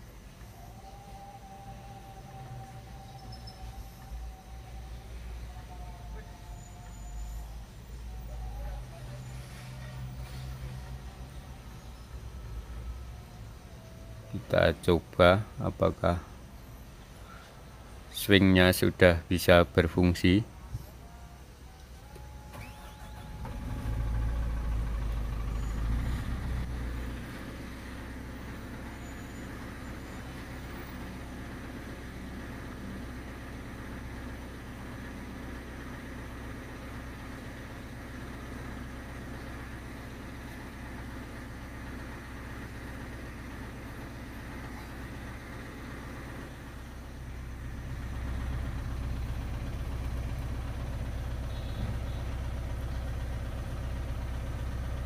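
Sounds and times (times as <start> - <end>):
excavator diesel engine idling: 0.0 - 55.0.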